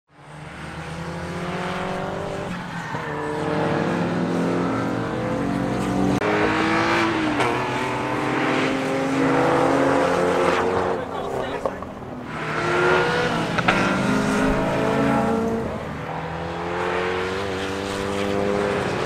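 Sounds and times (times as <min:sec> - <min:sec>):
race car engines at high revs: 0:00.1 - 0:19.0.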